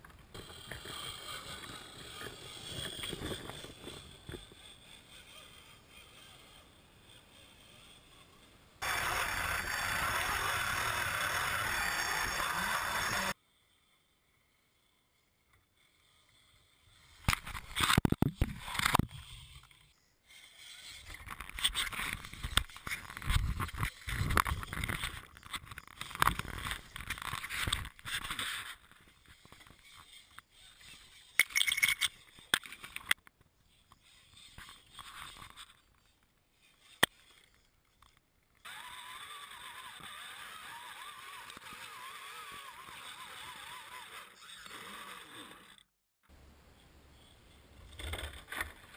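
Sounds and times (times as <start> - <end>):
toy truck motor running: 0.0 - 45.9.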